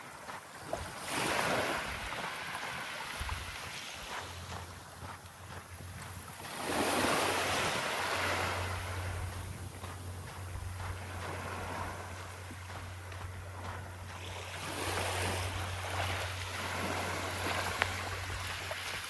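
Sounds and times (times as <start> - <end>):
small waves washing onto beach: 0.0 - 19.0.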